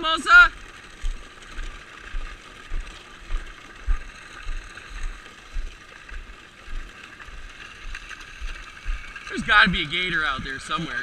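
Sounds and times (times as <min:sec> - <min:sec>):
footsteps on a trail: 0:01.0 - 0:11.0.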